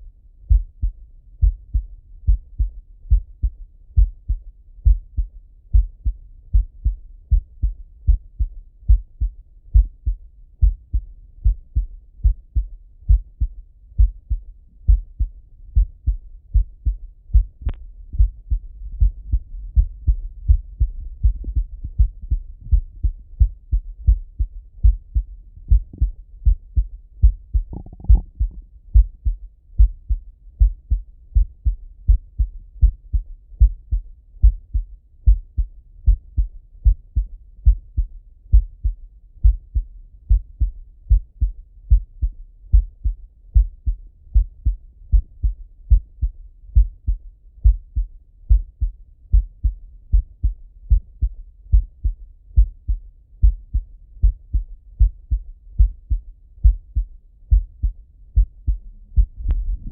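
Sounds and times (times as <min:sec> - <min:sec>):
heartbeat through stethoscope: 0:00.0 - 0:59.9.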